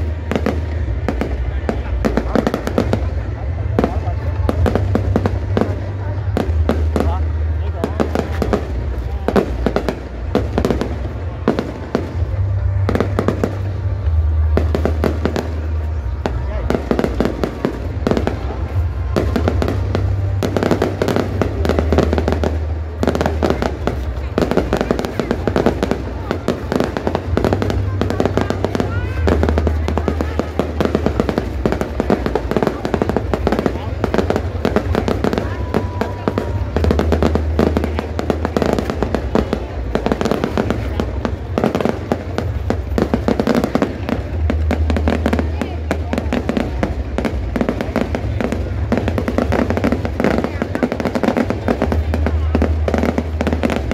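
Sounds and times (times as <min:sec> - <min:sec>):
fireworks bursting and crackling: 0:00.0 - 0:53.9.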